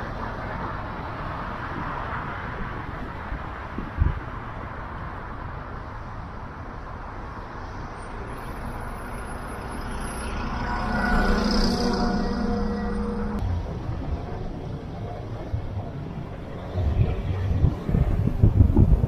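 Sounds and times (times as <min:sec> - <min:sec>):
bus engine hum: 0:00.0 - 0:19.0
car road and tyre noise: 0:00.0 - 0:19.0.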